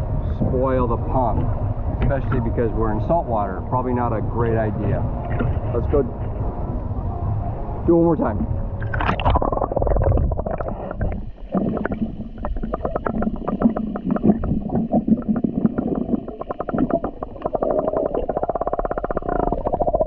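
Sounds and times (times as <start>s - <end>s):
muffled underwater gurgling: 0.0s - 20.0s.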